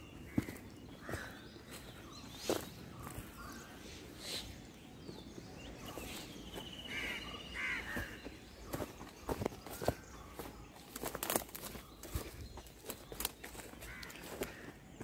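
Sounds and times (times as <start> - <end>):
footsteps crunching dry leaves: 0.2 - 3.8, 5.2 - 15.0.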